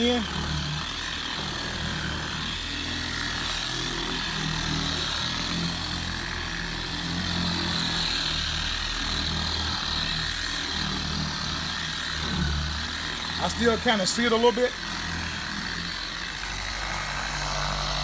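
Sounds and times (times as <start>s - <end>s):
electric car polisher whining: 0.0s - 18.0s.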